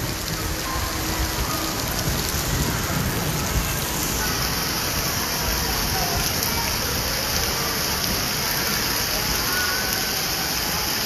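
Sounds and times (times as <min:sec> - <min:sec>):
rain on wet paving and puddles: 0:00.0 - 0:11.0.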